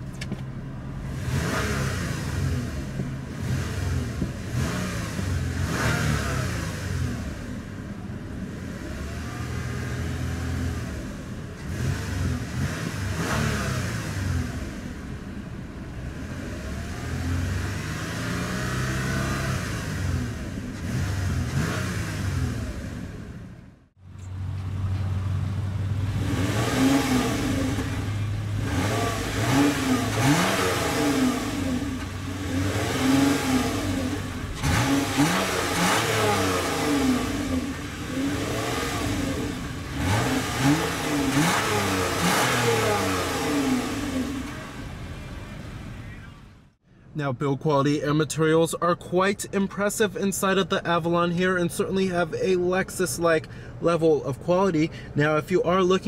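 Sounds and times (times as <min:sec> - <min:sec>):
car engine revving: 0:00.0 - 0:46.8.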